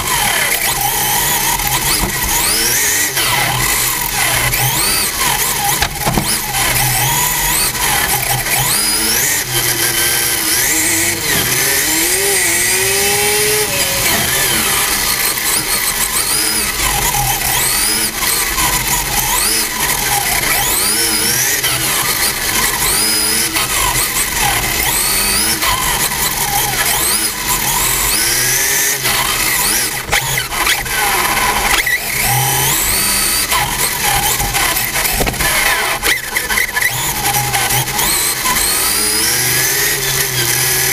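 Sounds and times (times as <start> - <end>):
rc car motor whine: 0.0 - 40.9
rumble and tyre noise: 0.0 - 40.9.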